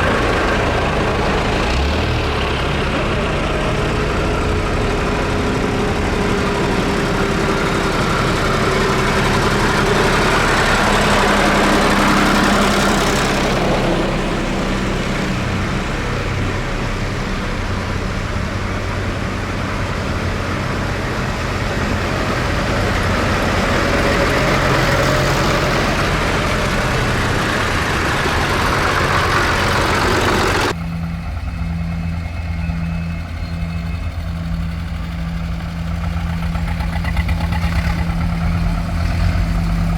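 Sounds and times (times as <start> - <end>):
tractor engine idling: 0.0 - 39.9
tractor engines passing: 0.0 - 39.9.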